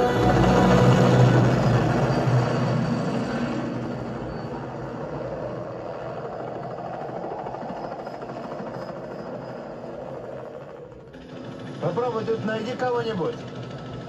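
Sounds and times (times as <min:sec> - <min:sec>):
helicopter rotor and engine: 0:00.0 - 0:14.0.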